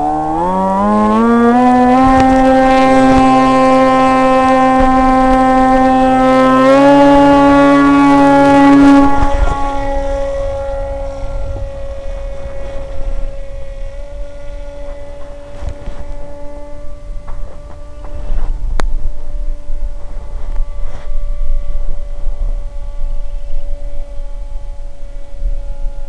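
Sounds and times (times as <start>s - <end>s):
model plane electric motor droning: 0.0s - 26.0s
rushing air noise: 1.0s - 25.9s.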